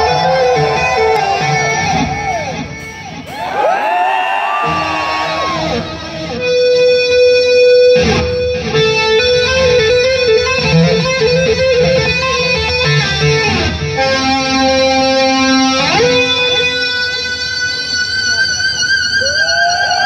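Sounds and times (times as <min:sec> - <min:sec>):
electric guitar solo: 0:00.0 - 0:20.0.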